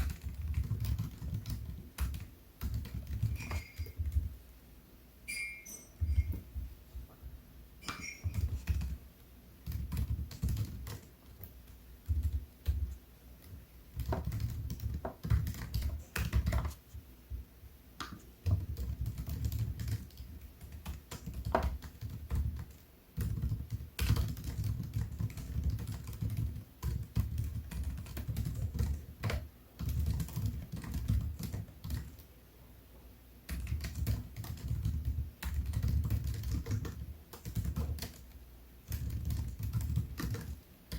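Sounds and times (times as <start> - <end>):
laptop keyboard typing: 0.0 - 4.4, 7.8 - 9.0, 9.6 - 16.9, 18.0 - 32.3, 33.4 - 40.9.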